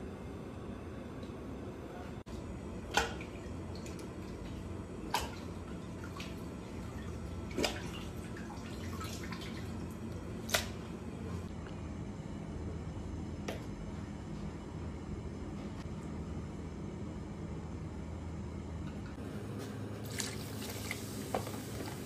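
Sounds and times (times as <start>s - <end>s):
kitchen hum: 0.0s - 22.0s.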